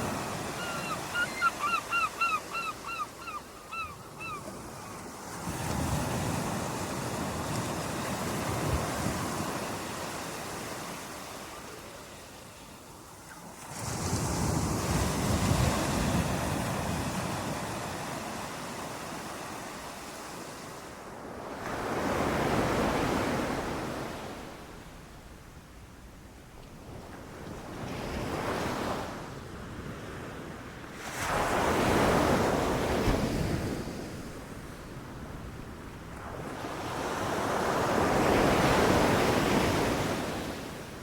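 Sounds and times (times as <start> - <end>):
ocean waves breaking on beach: 0.0 - 25.3, 26.8 - 41.0.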